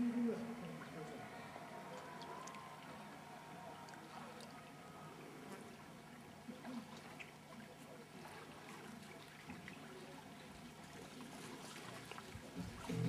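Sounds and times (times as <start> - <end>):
sea water lapping at shore: 0.0 - 13.0
small water splashes: 0.6 - 13.0.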